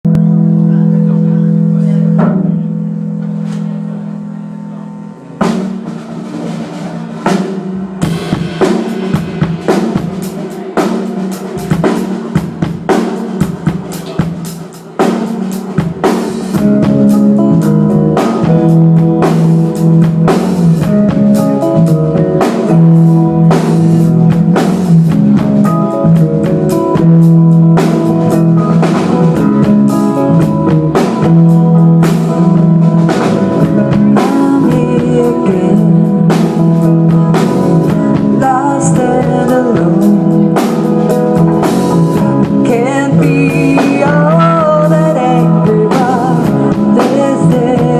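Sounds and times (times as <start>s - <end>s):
drums: 0.0s - 47.9s
rock band playing: 0.0s - 47.9s.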